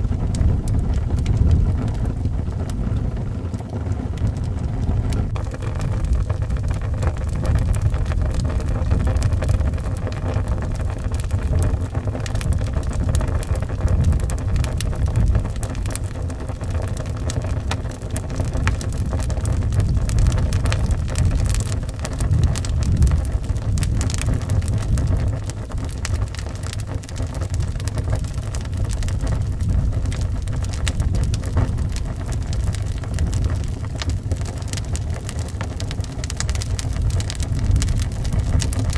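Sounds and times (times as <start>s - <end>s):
low howling wind: 0.0s - 38.9s
wood fire crackling and popping: 0.0s - 38.9s.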